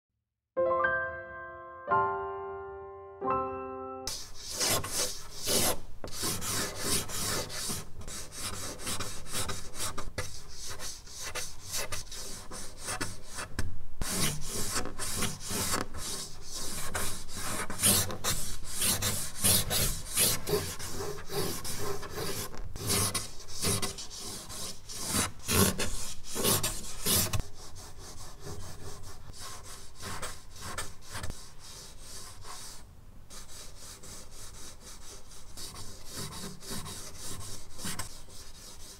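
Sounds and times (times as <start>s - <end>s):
charcoal scratching on paper: 4.1s - 38.9s.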